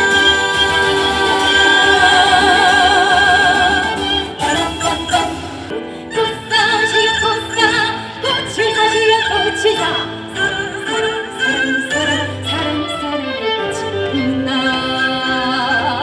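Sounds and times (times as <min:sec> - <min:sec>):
violin: 0:00.0 - 0:16.0
woman singing with vibrato: 0:00.0 - 0:16.0.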